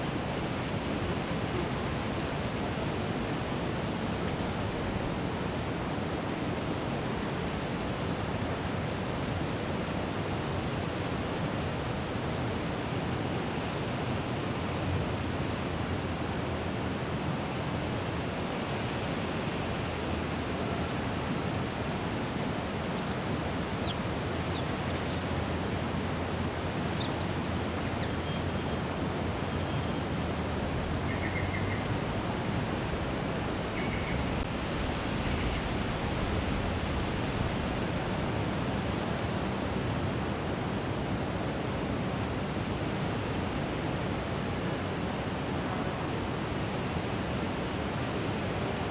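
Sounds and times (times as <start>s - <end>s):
steady rushing nature ambience: 0.0s - 48.9s.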